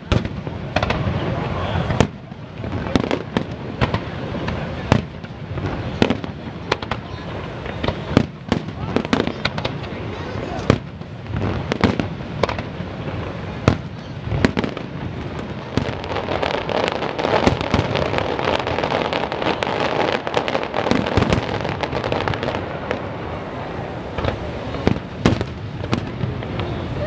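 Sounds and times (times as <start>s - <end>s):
fireworks bursting: 0.0s - 27.0s
fireworks crackling: 0.0s - 27.0s.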